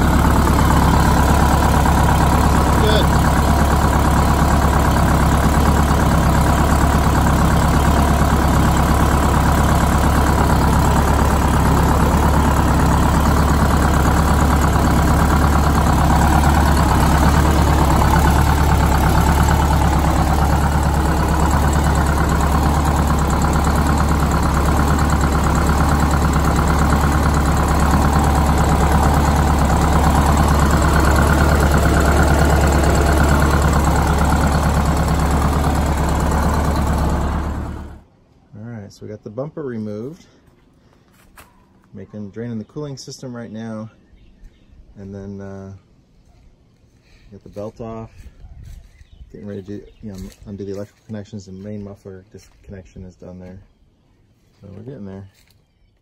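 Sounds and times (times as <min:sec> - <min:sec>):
diesel engine idling: 0:00.0 - 0:38.2, 0:39.0 - 0:56.0.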